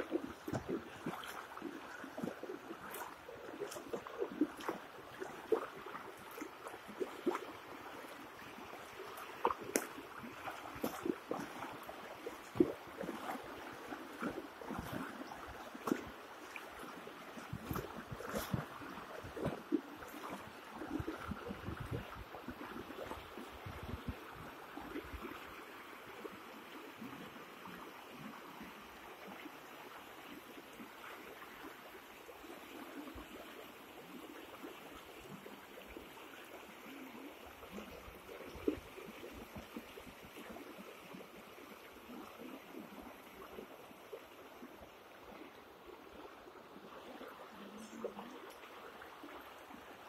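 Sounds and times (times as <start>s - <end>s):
floodwater rushing: 0.0s - 26.8s, 31.0s - 50.0s.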